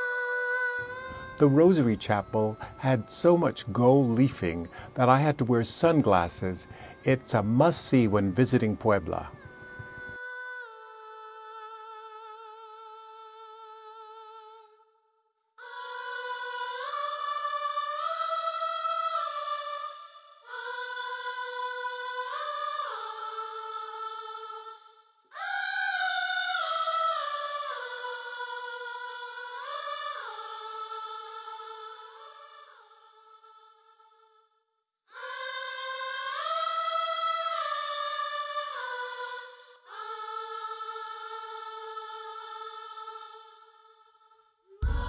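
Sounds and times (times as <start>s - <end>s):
high voices singing chords: 0.0s - 14.9s, 15.6s - 34.1s, 35.1s - 45.0s.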